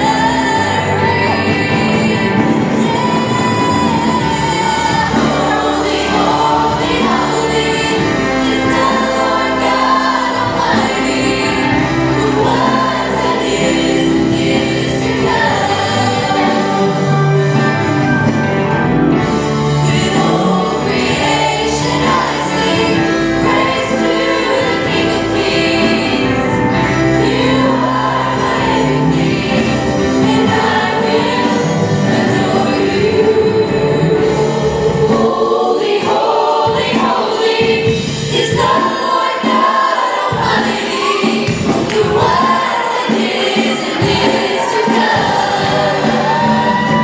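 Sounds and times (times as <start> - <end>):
choir singing: 0.0 - 47.0
instrumental accompaniment: 0.0 - 47.0.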